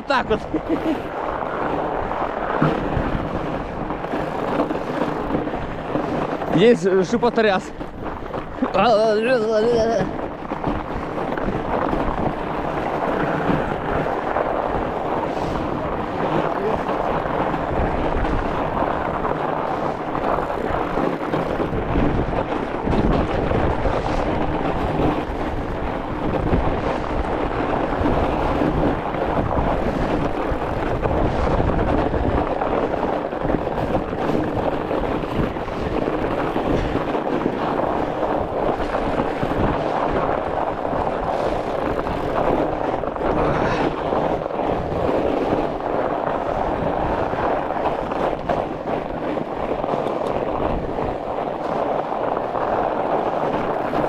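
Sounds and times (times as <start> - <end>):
studded tyres rumbling on ice: 0.0 - 54.0
wind buffeting microphone: 0.0 - 54.0.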